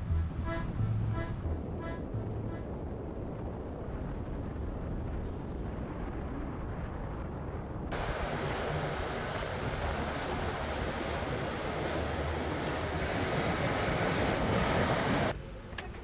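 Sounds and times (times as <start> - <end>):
low rumble: 0.0 - 15.6
steady wind noise: 0.0 - 16.0.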